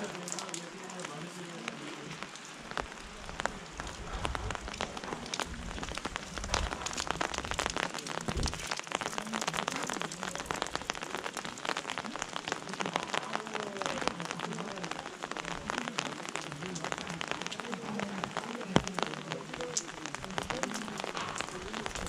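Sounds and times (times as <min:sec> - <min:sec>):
rain drops tapping on umbrella: 0:00.0 - 0:22.0
rain hiss: 0:00.0 - 0:22.0.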